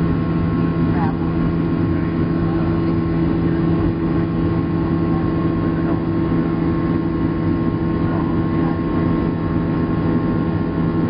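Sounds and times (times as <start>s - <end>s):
airliner cabin engine hum: 0.0s - 11.0s.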